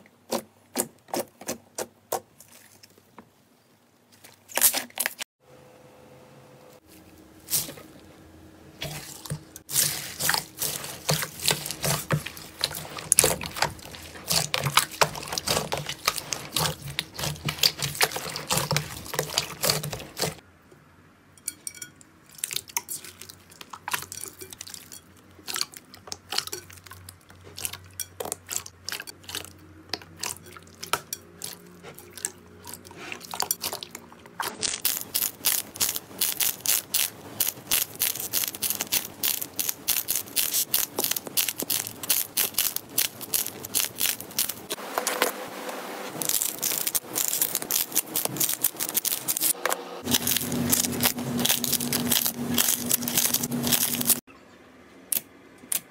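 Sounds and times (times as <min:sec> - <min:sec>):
slime squelching: 0:00.0 - 0:03.2, 0:08.8 - 0:20.4, 0:22.3 - 0:44.8, 0:46.1 - 0:54.3.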